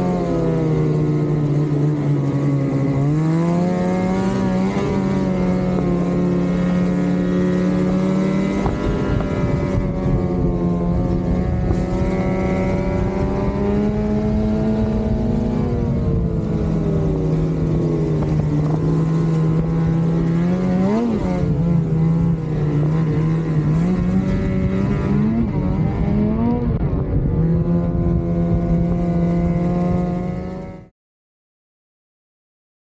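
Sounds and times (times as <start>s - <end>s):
snowmobile engine running: 0.0s - 30.9s.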